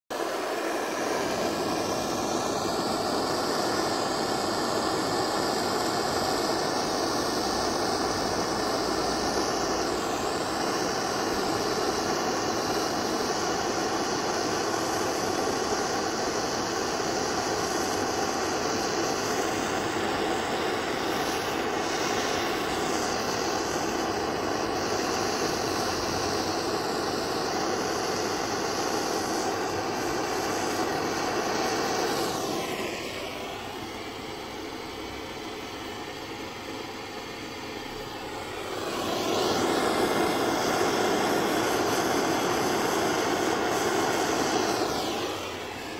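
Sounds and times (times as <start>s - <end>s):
gas blow torch hissing: 0.1s - 45.9s.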